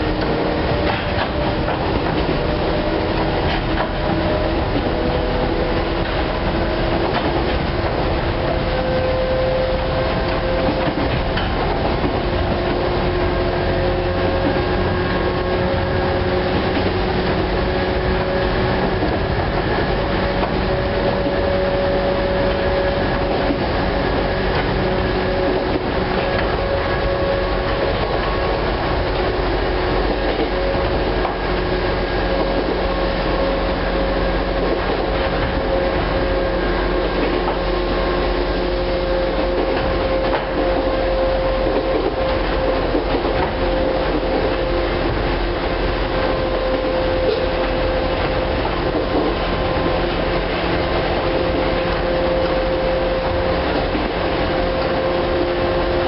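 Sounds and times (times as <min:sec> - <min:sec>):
train motor whine: 0:00.0 - 0:56.0
wheels rumbling on rails: 0:00.0 - 0:56.0.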